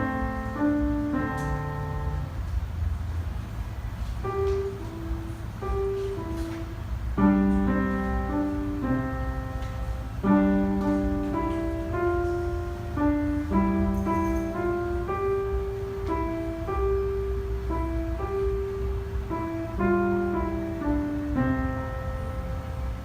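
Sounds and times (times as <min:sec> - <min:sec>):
piano-like keyboard melody: 0:00.0 - 0:23.0
steady low hum: 0:00.0 - 0:23.0.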